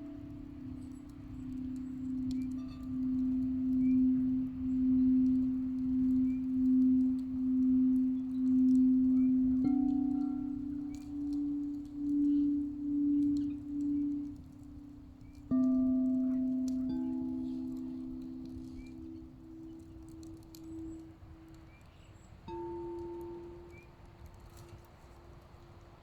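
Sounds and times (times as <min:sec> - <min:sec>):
singing bowl struck: 0:00.0 - 0:21.0, 0:22.5 - 0:24.7
singing bowl deep ringing tone: 0:00.0 - 0:25.9.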